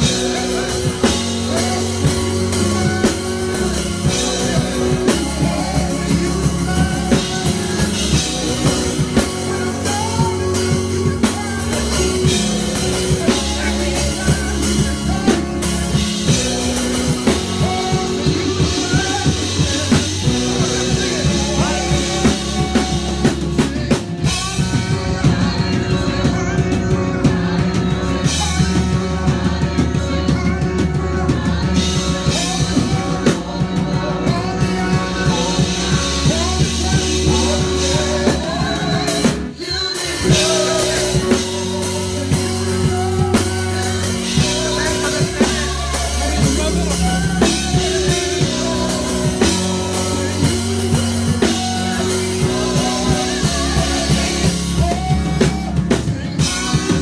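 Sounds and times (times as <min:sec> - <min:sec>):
drum kit steady beat: 0:00.0 - 0:57.0
organ chords: 0:00.0 - 0:57.0.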